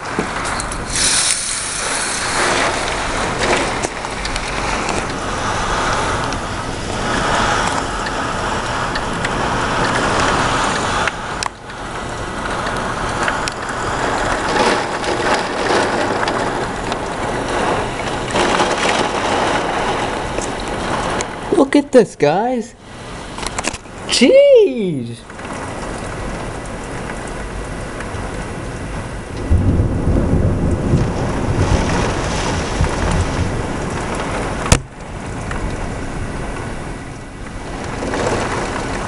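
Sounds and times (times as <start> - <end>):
heavy rain in strong wind: 0.0 - 39.0.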